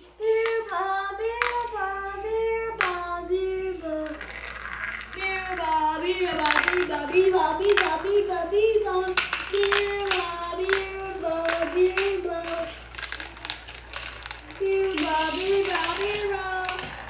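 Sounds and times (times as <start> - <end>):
child singing wordless tune: 0.0 - 4.5, 5.1 - 13.0, 14.4 - 17.0
marbles clacking on marble run: 0.2 - 17.0.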